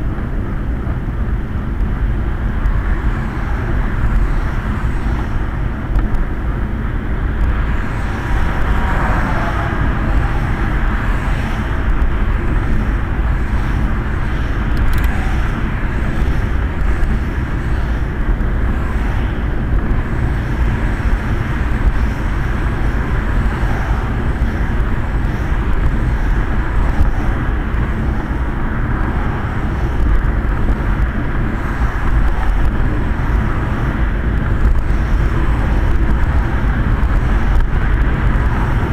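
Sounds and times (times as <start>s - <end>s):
passing traffic: 0.0s - 38.9s
tyres rumbling on road: 0.0s - 38.9s.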